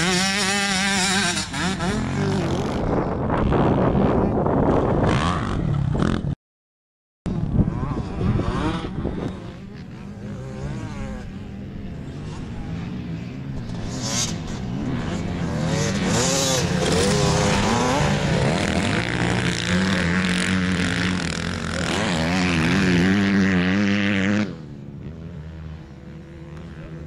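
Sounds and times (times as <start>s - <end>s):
motocross bike engines revving: 0.0s - 6.4s, 7.3s - 27.0s.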